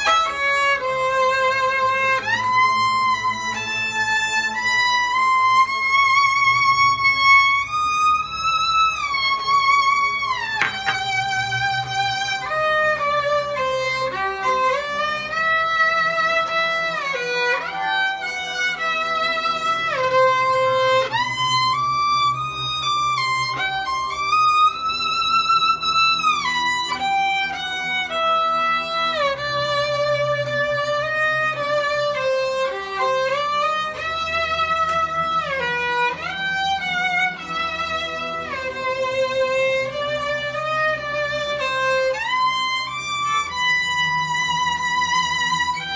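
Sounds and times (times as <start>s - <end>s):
solo violin slow melody: 0.0s - 45.9s.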